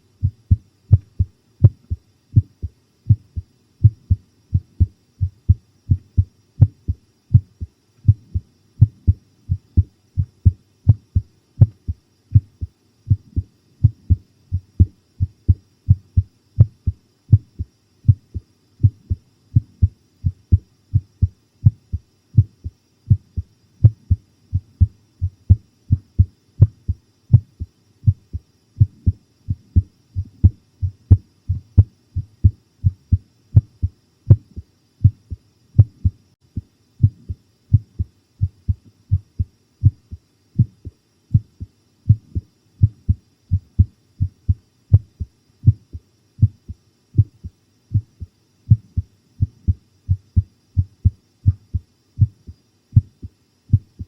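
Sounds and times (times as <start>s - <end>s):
heartbeat thumps: 0.2s - 54.0s.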